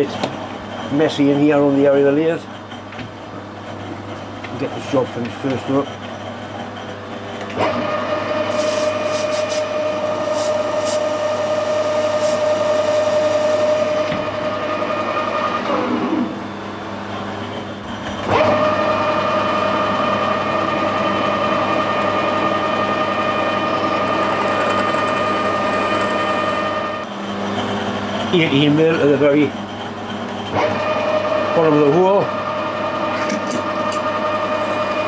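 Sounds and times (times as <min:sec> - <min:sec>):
metal lathe gear whine: 0:00.0 - 0:02.9, 0:03.5 - 0:35.0.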